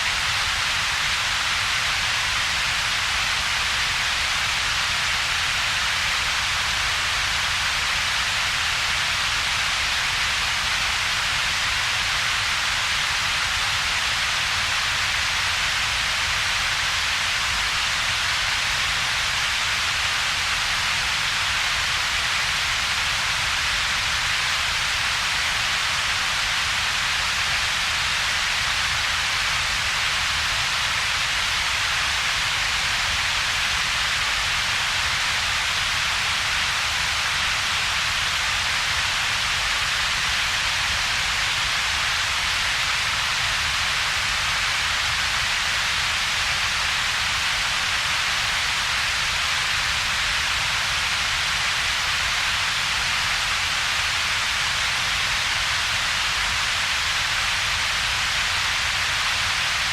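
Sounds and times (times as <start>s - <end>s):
even hiss: 0.0s - 59.9s.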